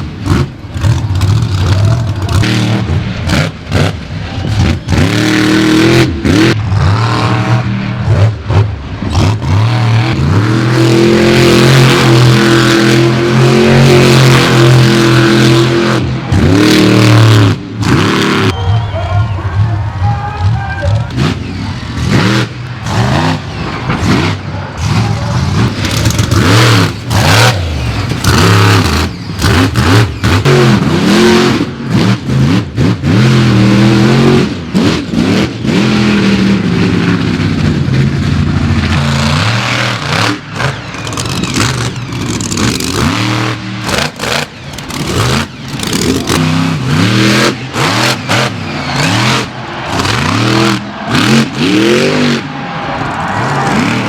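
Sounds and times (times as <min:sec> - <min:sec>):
truck engines revving hard: 0:00.0 - 0:54.0.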